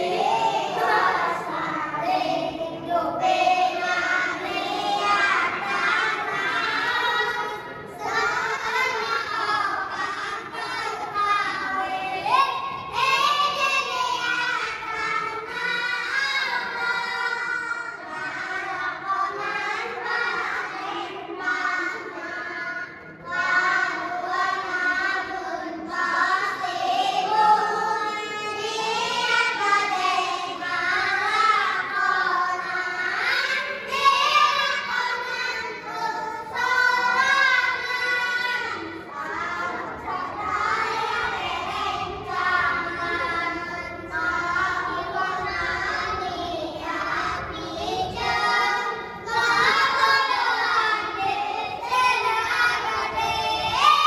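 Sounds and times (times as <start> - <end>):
children singing in unison: 0.0 - 54.0.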